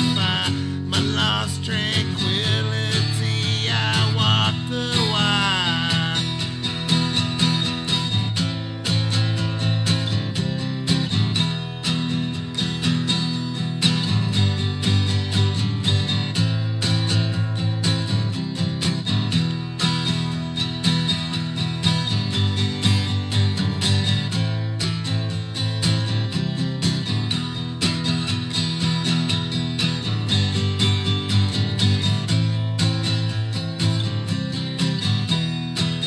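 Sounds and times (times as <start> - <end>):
guitar strumming: 0.0 - 36.0.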